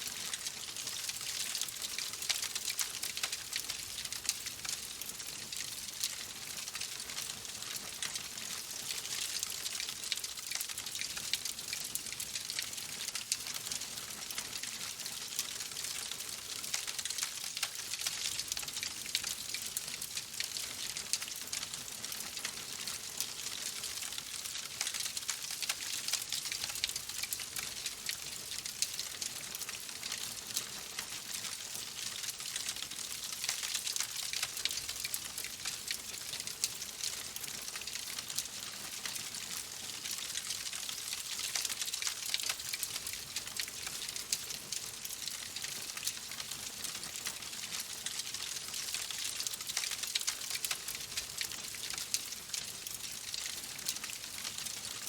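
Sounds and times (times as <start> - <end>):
wood fire crackling in fireplace: 0.0 - 55.0.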